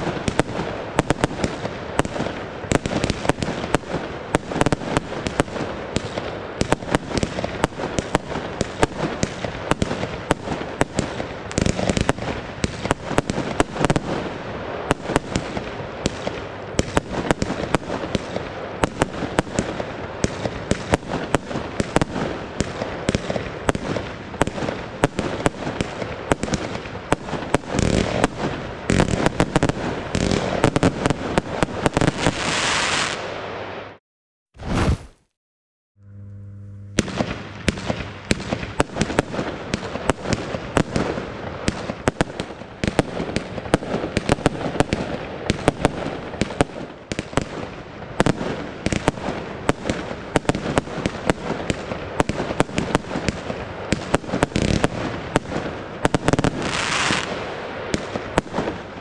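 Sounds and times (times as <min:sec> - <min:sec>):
fireworks launching and bursting: 0:00.0 - 0:34.0, 0:34.6 - 0:35.3, 0:36.1 - 0:59.0.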